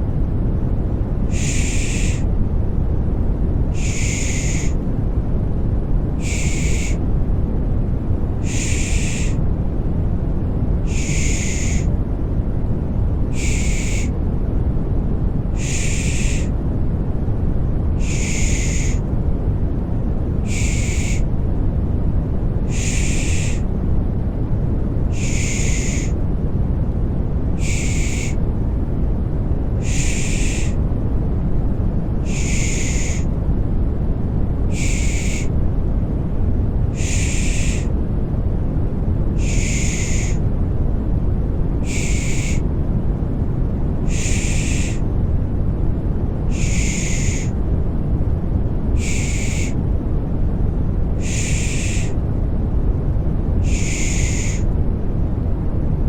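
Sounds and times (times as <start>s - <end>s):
low white noise: 0.0s - 56.0s.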